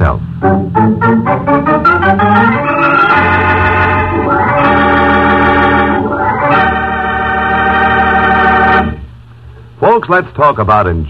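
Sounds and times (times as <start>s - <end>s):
organ chords: 0.0s - 9.5s.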